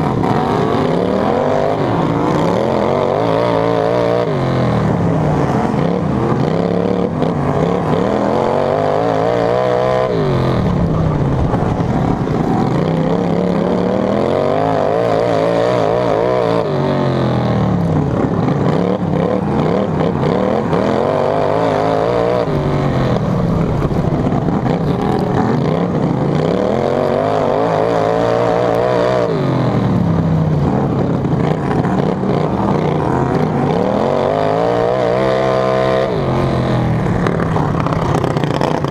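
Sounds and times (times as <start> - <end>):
lawn tractor engine revving: 0.0 - 30.2, 30.9 - 38.9.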